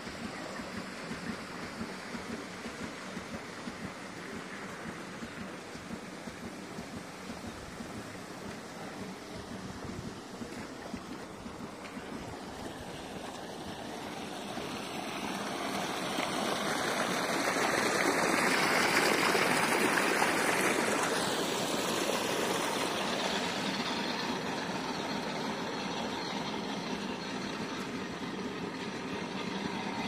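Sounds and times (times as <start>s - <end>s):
engine running: 0.0s - 30.0s
muddy water rushing and splashing: 1.9s - 26.2s.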